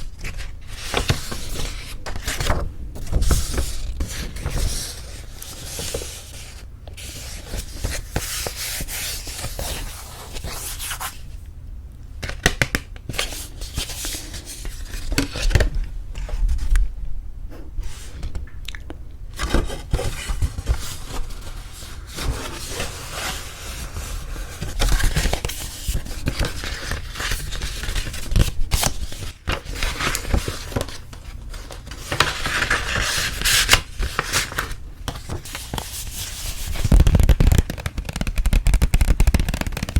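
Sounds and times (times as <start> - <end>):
paper and envelopes rustling: 0.0 - 11.3, 12.3 - 16.8, 19.4 - 39.9.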